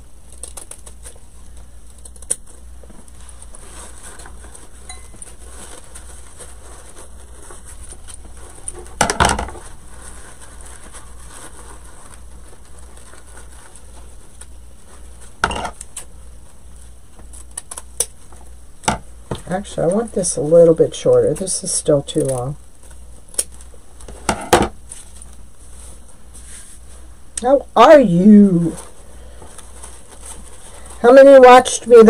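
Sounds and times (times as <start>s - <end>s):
ribbon rustling: 0.0s - 32.0s.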